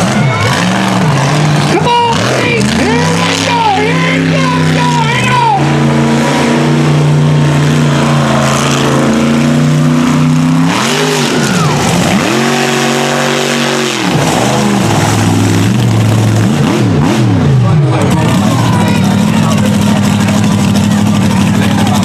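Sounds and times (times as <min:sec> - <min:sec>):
truck engine running hard: 0:00.0 - 0:22.0.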